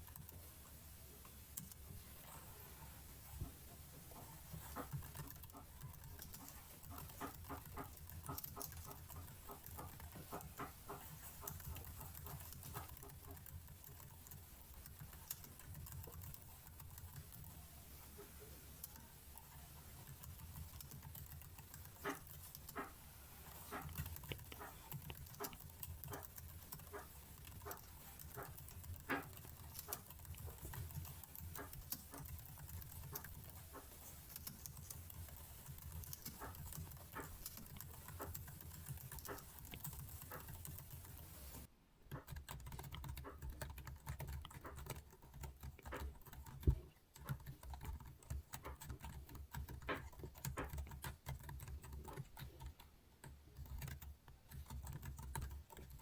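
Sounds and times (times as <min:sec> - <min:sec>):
computer keyboard keys clicking: 0:04.2 - 0:17.6, 0:18.8 - 0:56.0.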